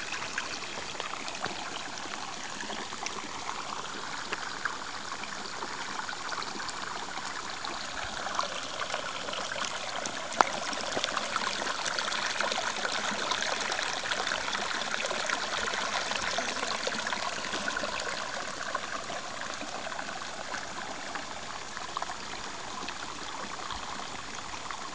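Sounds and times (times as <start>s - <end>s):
water pouring into pool: 0.0s - 24.9s.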